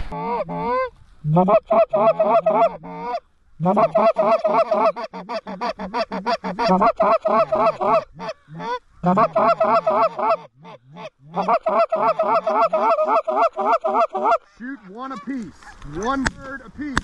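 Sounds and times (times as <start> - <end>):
geese honking: 0.1 - 15.8.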